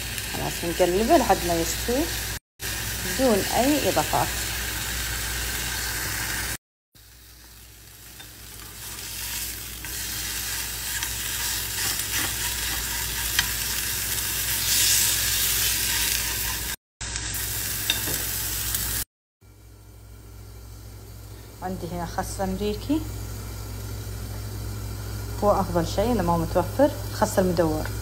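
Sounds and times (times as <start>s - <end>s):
chicken sizzling in a pan: 0.0s - 21.6s, 23.1s - 28.0s.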